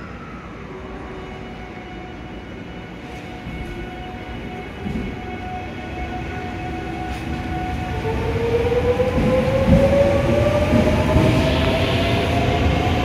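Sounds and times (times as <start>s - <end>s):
low rumble of train cars: 0.0s - 13.0s.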